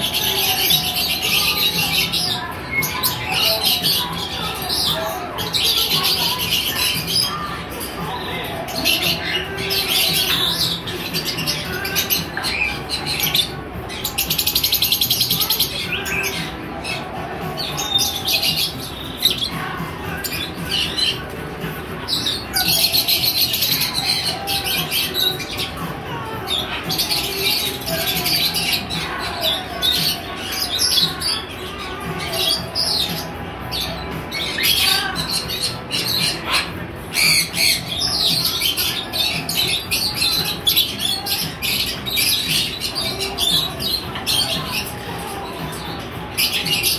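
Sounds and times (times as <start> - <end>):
flock of birds chattering and screeching: 0.0 - 46.9.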